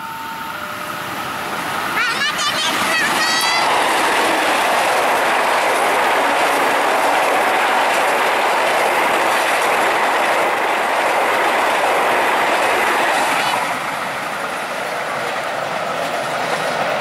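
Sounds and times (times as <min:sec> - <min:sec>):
train wheels rushing on rails: 0:00.6 - 0:17.0.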